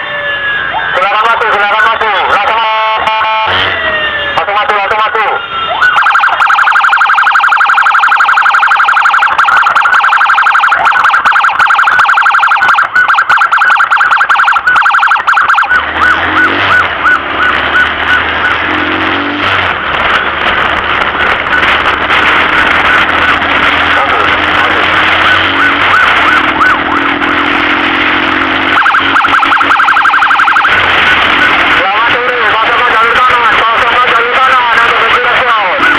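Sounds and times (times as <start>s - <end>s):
emergency vehicle siren yelping: 0.0s - 35.9s
road noise: 0.0s - 35.9s.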